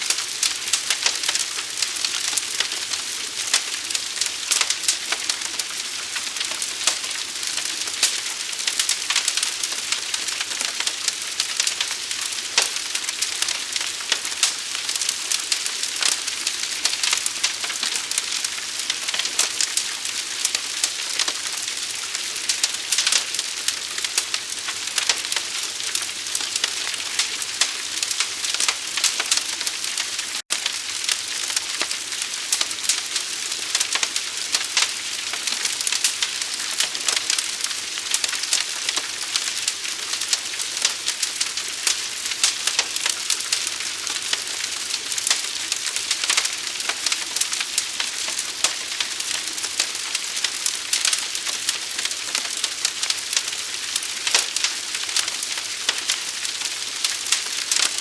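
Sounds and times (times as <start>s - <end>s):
burning wood crackling: 0.0s - 58.0s.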